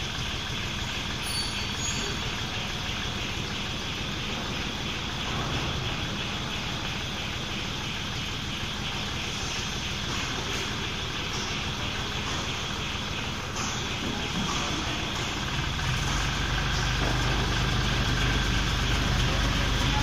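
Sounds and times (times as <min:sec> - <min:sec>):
crane motor and gear hum: 0:00.0 - 0:20.0.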